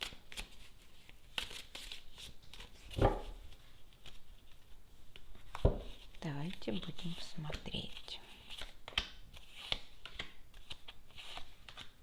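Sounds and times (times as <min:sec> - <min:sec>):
cards shuffling: 0:00.0 - 0:04.6, 0:06.8 - 0:12.0.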